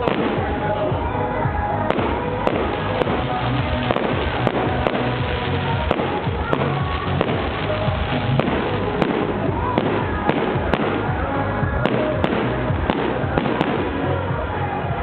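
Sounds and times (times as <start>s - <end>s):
fireworks banging: 0.0s - 14.5s.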